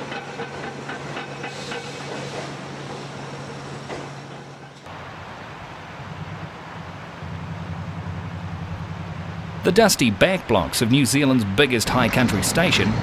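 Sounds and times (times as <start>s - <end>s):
machinery humming with hiss: 0.0s - 13.0s.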